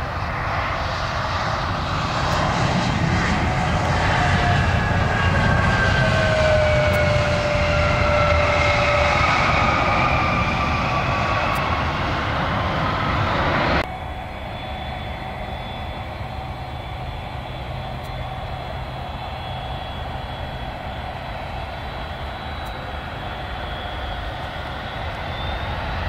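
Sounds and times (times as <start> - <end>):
jet airliner passing: 0.0 - 26.0
steady jet engine hum: 0.0 - 26.0.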